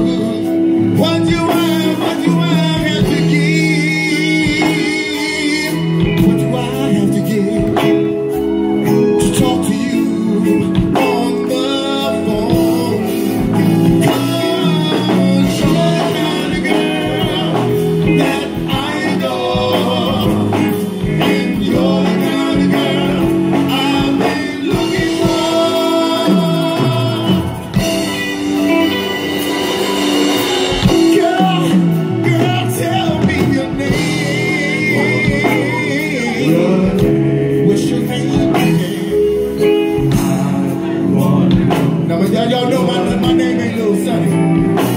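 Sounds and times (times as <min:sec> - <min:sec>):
drums: 0:00.0 - 0:44.9
keyboards: 0:00.0 - 0:44.9
male vocal group singing: 0:00.0 - 0:44.9.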